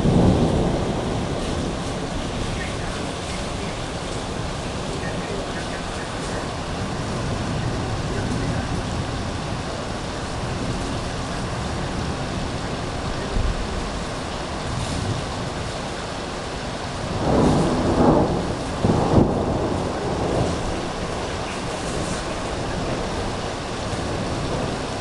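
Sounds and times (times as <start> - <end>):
heavy rain falling: 0.0 - 25.0
thunder rumbling: 0.0 - 25.0.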